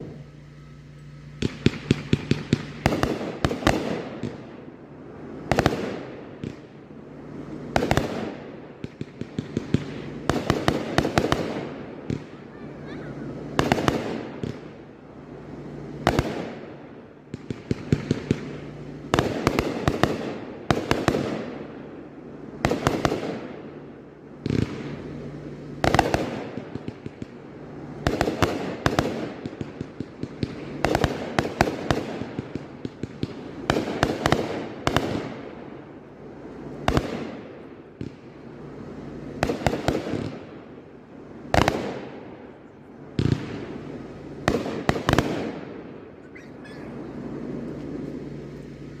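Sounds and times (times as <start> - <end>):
firework bangs: 0.0 - 49.0
firework crackle: 0.0 - 49.0.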